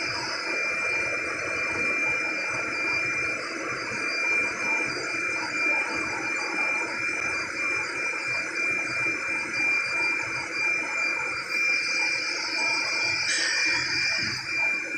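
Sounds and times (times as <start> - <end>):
high-pitched machine whine: 0.0 - 14.9.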